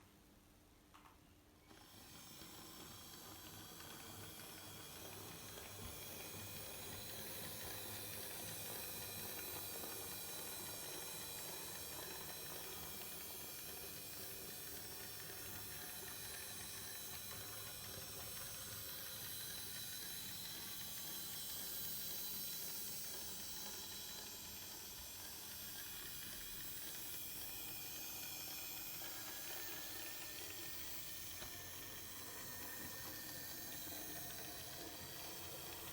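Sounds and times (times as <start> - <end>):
model train motor whining: 1.7 - 35.9.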